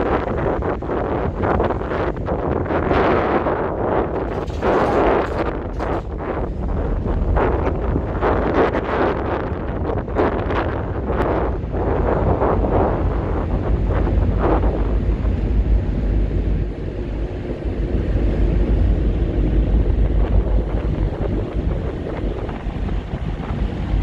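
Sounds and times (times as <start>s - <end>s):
steady low rumble: 0.0s - 24.0s
wind buffeting microphone: 0.0s - 24.0s.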